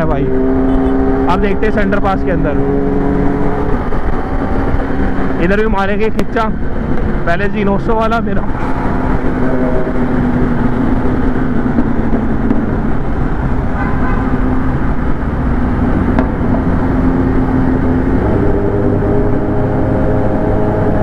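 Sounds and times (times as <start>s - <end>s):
motorcycle engines running: 0.0s - 21.0s
wind and road noise rushing: 0.0s - 21.0s.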